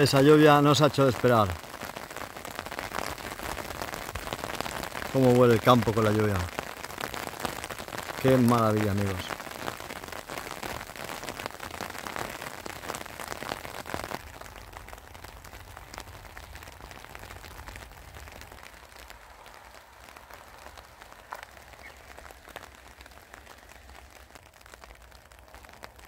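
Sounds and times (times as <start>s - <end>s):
rain on an umbrella: 0.0s - 26.0s.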